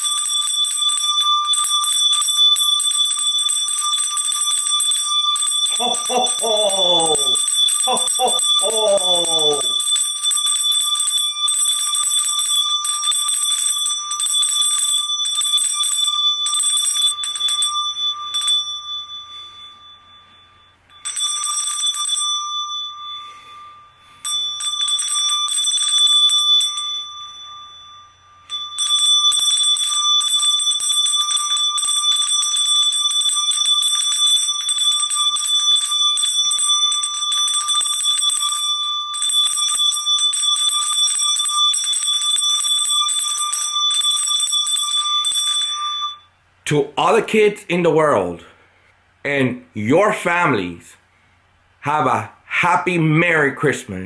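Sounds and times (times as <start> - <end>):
handbell ringing: 0.0 - 46.3.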